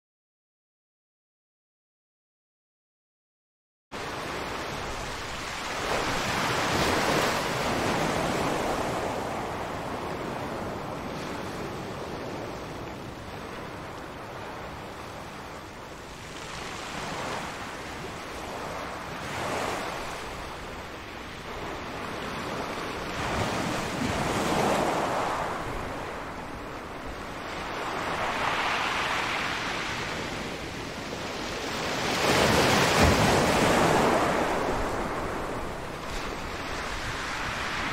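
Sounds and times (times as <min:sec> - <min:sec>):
sea waves breaking: 0:04.0 - 0:37.9.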